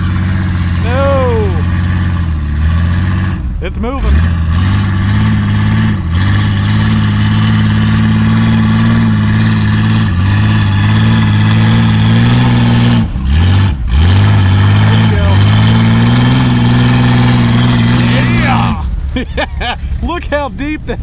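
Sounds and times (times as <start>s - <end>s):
engine revving high: 0.0s - 19.0s.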